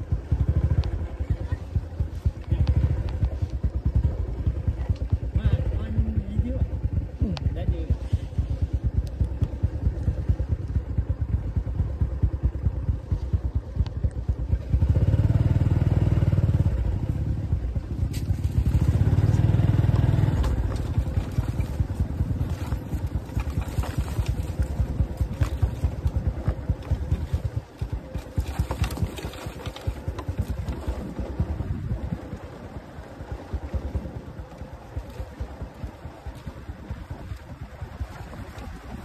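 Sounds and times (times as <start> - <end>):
motorbike engine running: 0.0 - 39.0.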